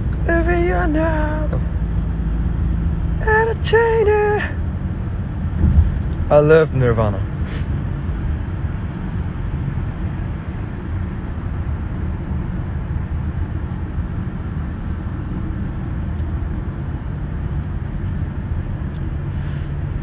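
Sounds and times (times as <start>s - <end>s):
low rumble with hiss: 0.0s - 20.0s.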